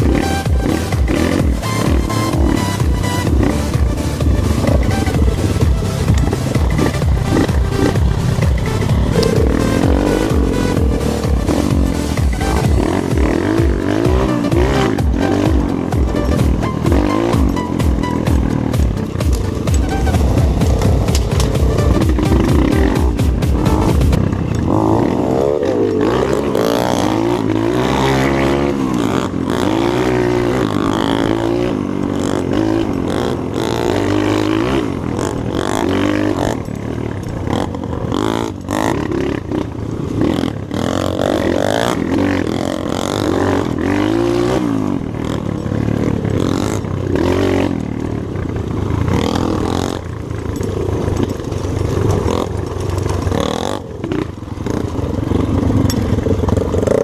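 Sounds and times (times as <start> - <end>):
bike rattling and knocking: 0.0 - 57.0
motorcycle engine revving: 0.0 - 57.0.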